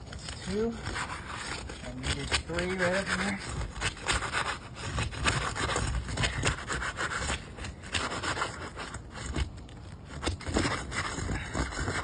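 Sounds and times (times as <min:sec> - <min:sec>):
tool scraping roof shingle: 0:00.0 - 0:12.0.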